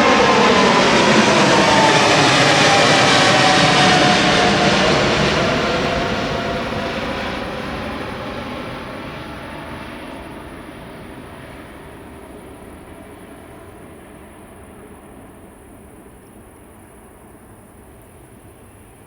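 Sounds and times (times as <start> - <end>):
jet roar with falling whine: 0.0 - 19.0.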